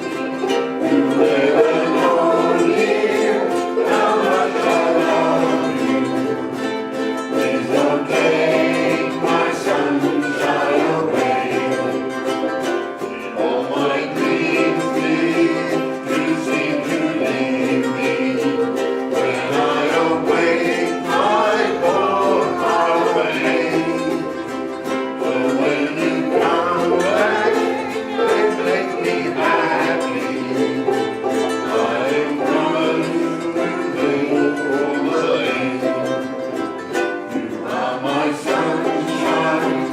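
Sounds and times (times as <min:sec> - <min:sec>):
group singing: 0:00.0 - 0:39.9
strummed string instruments: 0:00.0 - 0:39.9.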